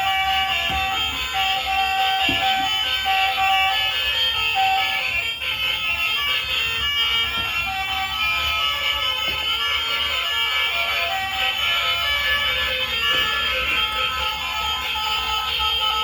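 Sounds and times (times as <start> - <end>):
electronic tone melody: 0.0 - 16.0.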